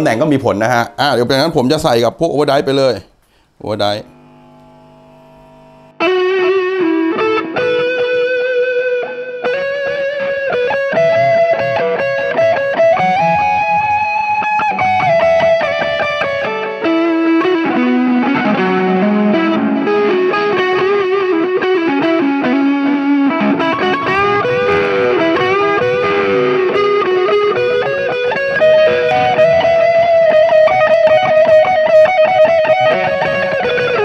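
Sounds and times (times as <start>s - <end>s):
distorted electric guitar: 3.8s - 34.0s.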